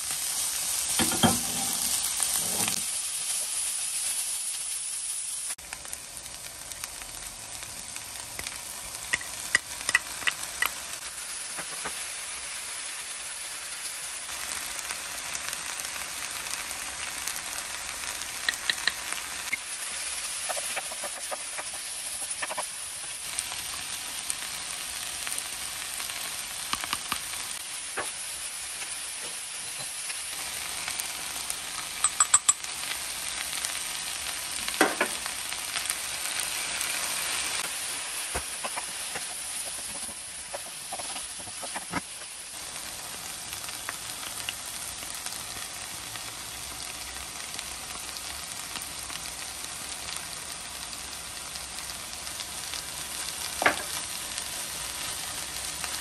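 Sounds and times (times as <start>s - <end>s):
food sizzling in a hot pan: 0.0s - 56.0s.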